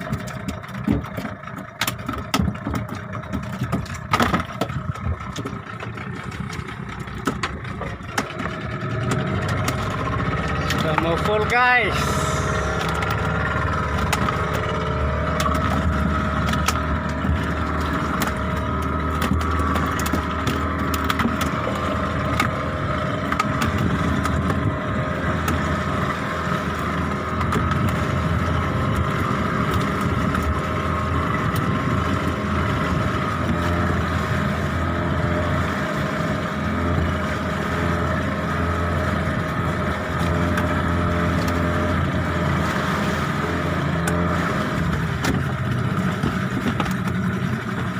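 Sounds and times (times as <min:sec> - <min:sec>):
boat engine droning: 0:00.0 - 0:47.9.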